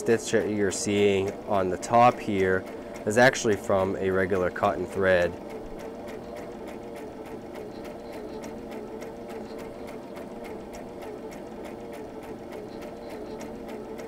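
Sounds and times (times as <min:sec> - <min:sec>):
sewing machine motor hum: 0:00.0 - 0:14.0
sewing needle ticking: 0:00.0 - 0:14.0.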